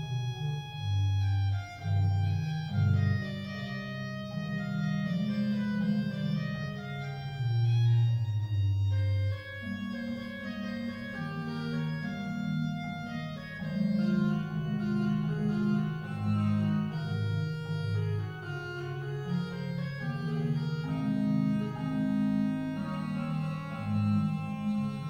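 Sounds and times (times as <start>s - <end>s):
pipe organ playing slow music: 0.0s - 25.0s.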